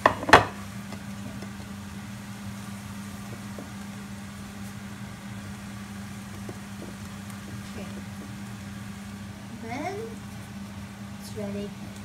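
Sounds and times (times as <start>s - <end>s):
kitchen appliance hum: 0.0s - 12.0s.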